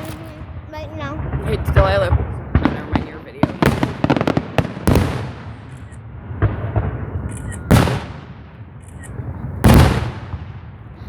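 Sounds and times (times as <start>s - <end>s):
fireworks cracking: 0.0s - 11.0s
fireworks loud bangs: 0.0s - 11.0s.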